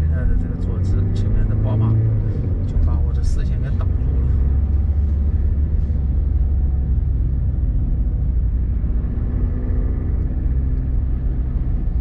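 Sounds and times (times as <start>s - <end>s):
van engine and tyres rumbling: 0.0s - 12.0s.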